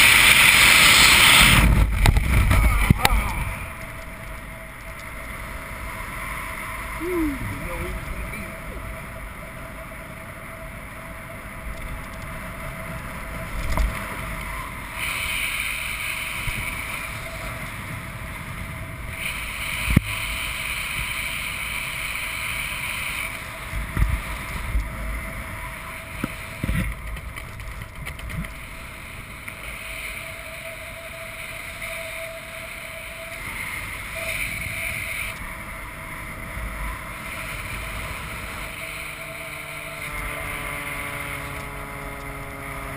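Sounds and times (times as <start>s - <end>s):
biplane engine drone: 0.0s - 42.9s
wind gusts buffeting microphone: 0.0s - 42.9s
wind rushing over microphone: 0.0s - 42.9s.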